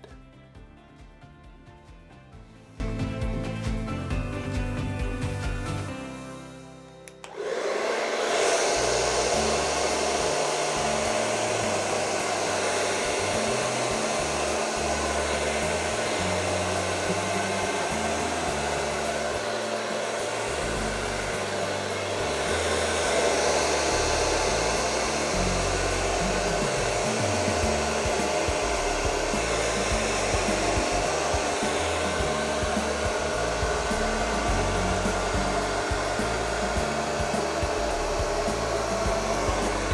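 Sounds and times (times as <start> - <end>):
hair dryer blowing: 7.1 - 39.9.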